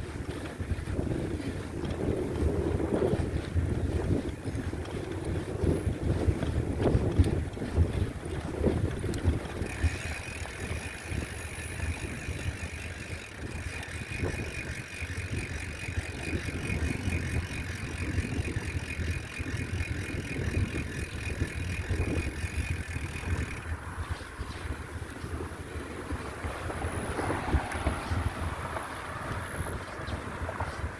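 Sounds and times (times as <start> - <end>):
bicycle riding rumble: 0.0 - 30.9
wind buffeting microphone: 0.0 - 30.9.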